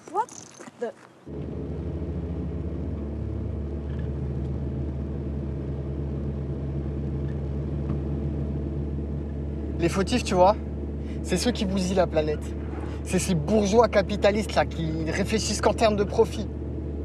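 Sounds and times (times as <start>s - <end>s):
car engine hum from inside: 1.3s - 17.0s.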